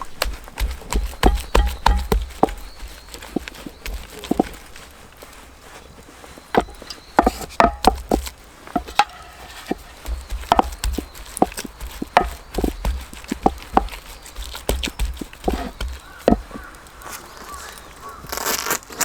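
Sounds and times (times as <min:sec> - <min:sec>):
irregular knocks and thuds: 0:00.0 - 0:05.0, 0:06.5 - 0:17.6.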